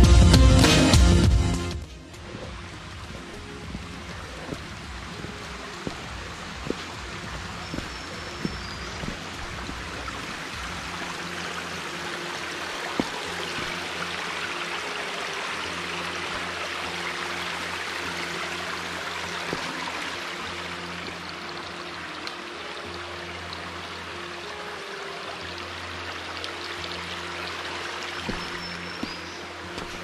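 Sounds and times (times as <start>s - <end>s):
stream running over rocks: 1.8s - 30.0s.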